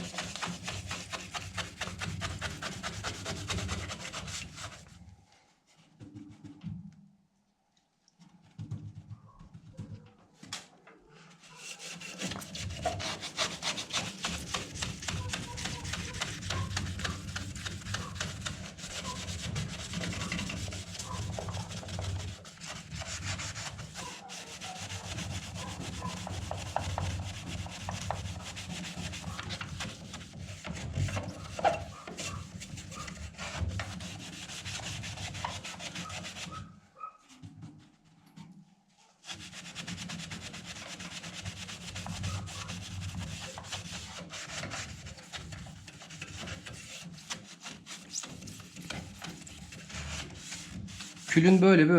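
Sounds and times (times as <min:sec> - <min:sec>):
sponge scrubbing glass: 0:00.0 - 0:04.9, 0:11.4 - 0:36.7, 0:39.2 - 0:51.7.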